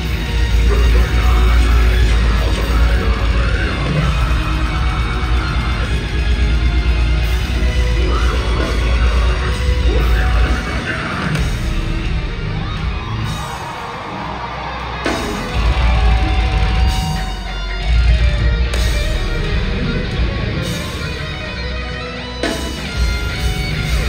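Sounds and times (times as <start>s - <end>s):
heavy metal band playing live: 0.0s - 24.0s.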